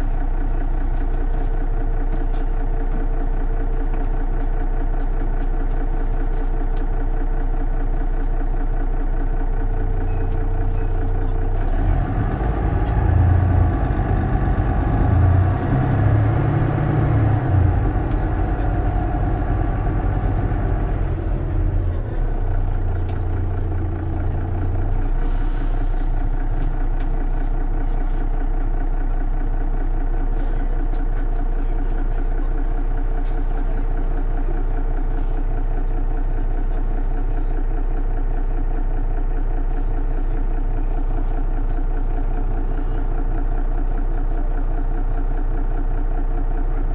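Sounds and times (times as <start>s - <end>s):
bus diesel engine: 0.0s - 46.9s.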